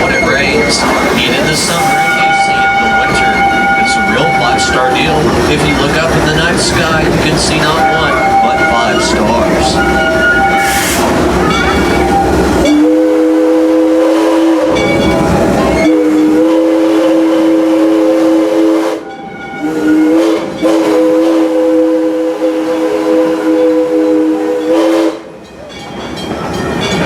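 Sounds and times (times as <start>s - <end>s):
steam locomotive chime whistle: 0.0s - 27.0s
train running rumble and clatter: 0.0s - 27.0s.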